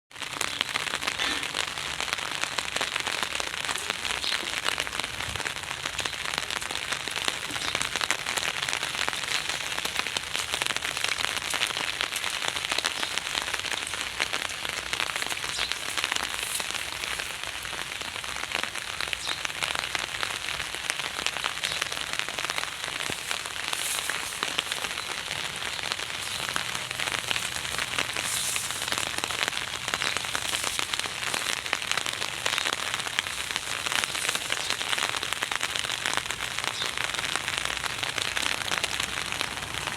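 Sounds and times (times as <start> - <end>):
heavy rain pouring: 0.1 - 39.9.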